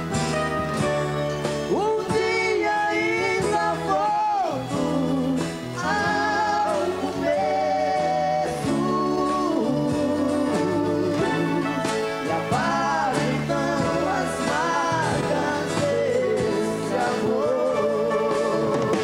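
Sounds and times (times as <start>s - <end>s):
band accompaniment: 0.0s - 19.0s
two men singing in harmony: 1.7s - 19.0s.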